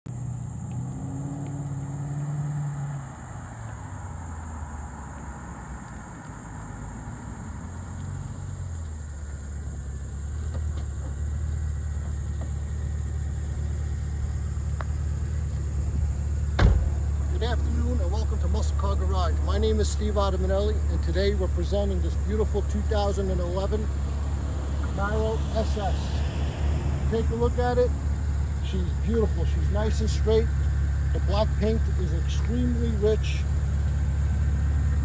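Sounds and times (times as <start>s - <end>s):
car engine idling: 0.1s - 35.0s.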